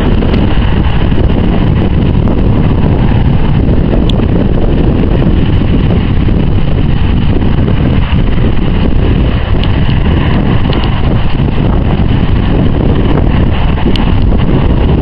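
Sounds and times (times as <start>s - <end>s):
turboprop engines droning: 0.0s - 15.0s
wind rumble on microphone: 0.0s - 15.0s.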